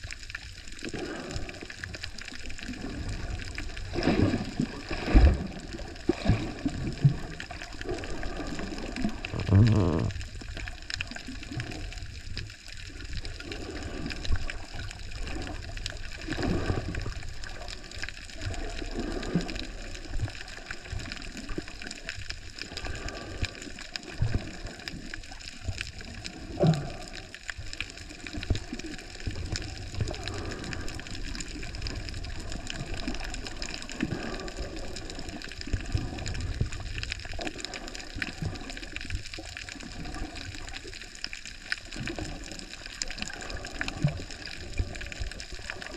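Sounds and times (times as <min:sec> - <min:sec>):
muffled rush of water: 0:00.0 - 0:45.9.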